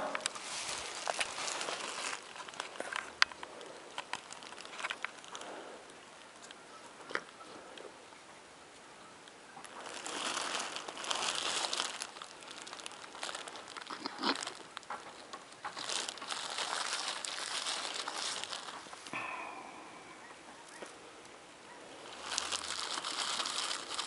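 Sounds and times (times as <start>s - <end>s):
dry hay rustling and crackling: 0.0s - 7.8s, 9.4s - 19.3s, 20.4s - 24.0s.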